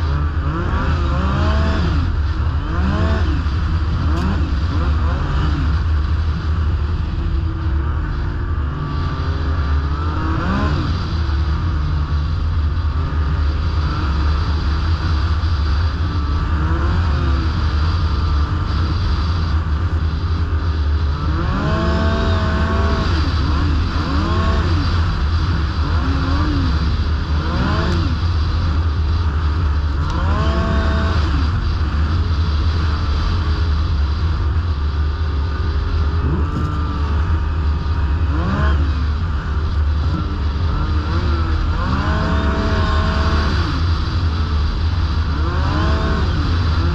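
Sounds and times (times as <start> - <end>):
snowmobile engine revving: 0.0 - 46.9.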